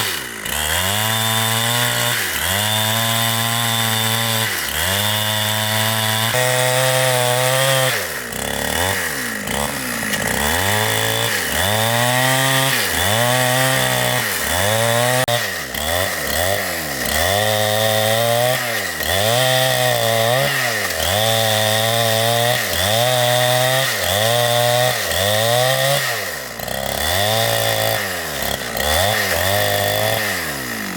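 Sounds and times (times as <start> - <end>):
chainsaw cutting wood: 0.0 - 30.9.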